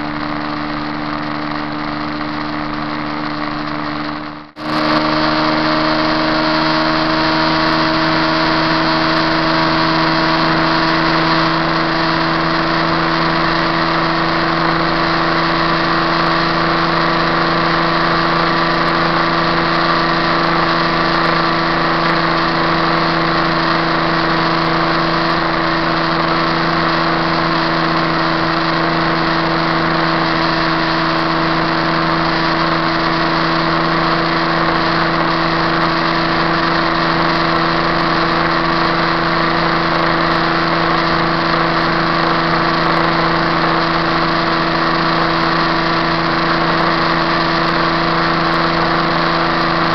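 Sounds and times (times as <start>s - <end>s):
motorcycle engine at high revs: 0.0s - 49.9s.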